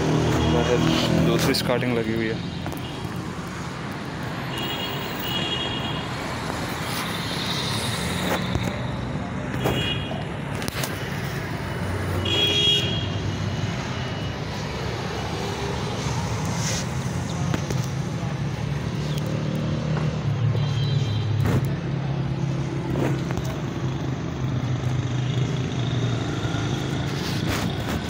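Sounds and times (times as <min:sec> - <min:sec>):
traffic and engine hum: 0:00.0 - 0:28.0.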